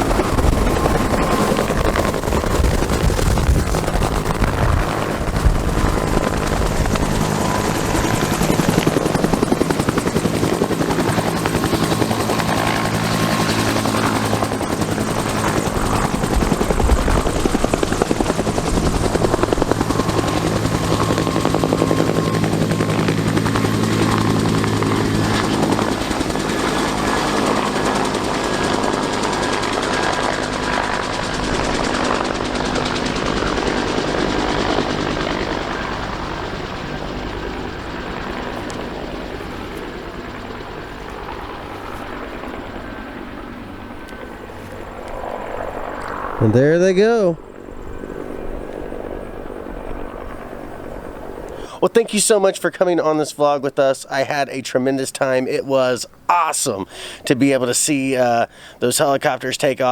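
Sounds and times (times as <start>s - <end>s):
helicopter turbine and rotor beat: 0.0s - 59.9s.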